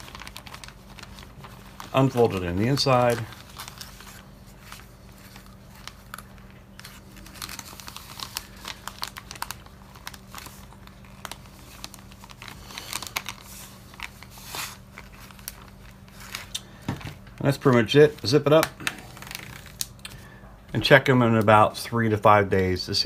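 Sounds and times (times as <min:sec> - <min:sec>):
plastic bag crinkling: 0:00.0 - 0:20.1
faint low hum: 0:00.0 - 0:23.0.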